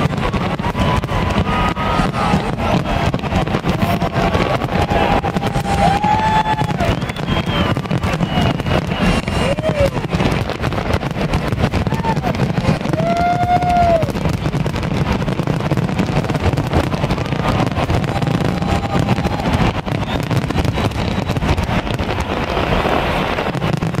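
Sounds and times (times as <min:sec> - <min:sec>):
fireworks booming: 0:00.0 - 0:24.0
fireworks crackling: 0:00.0 - 0:24.0.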